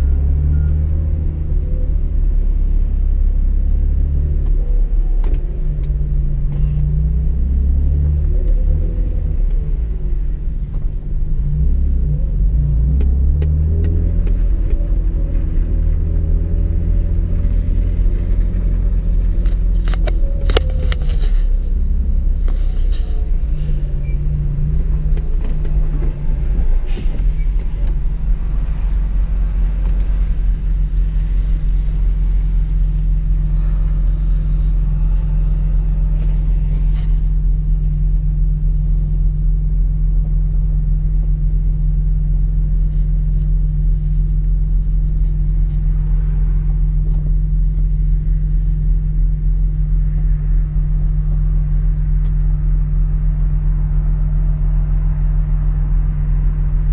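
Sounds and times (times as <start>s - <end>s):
car engine droning: 0.0s - 56.9s
road noise: 0.0s - 56.9s.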